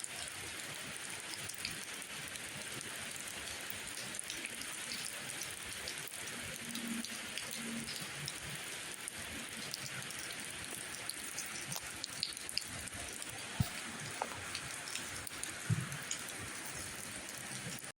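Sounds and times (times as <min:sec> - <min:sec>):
steady rain hiss: 0:00.0 - 0:17.9.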